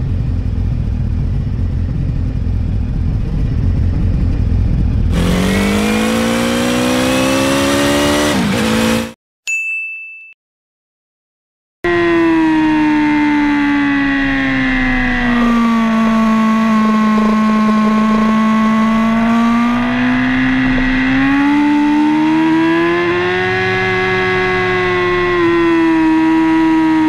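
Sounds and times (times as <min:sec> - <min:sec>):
sport bike engine at high revs: 0:00.0 - 0:09.2, 0:11.9 - 0:27.0.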